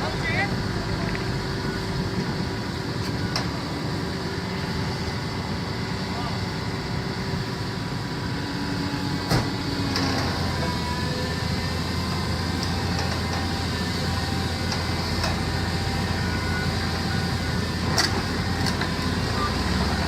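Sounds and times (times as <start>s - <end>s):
heavy vehicle engine rumbling: 0.0s - 20.0s.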